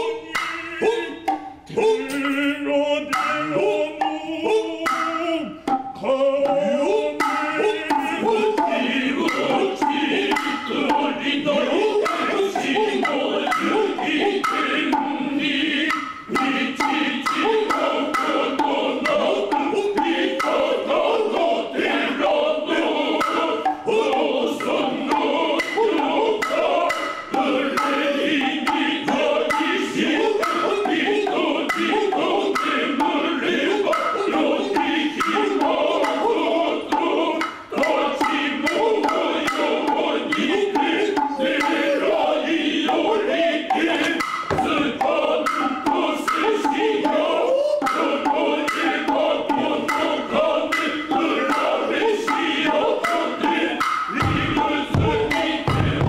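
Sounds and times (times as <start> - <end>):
male chorus chanting: 0.0 - 56.0
sharp drum strokes: 0.0 - 56.0.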